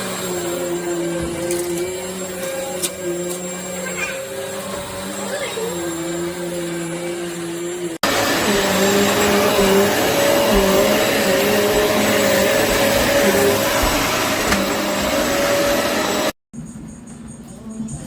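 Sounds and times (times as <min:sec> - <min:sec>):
vacuum cleaner running: 0:00.0 - 0:16.4.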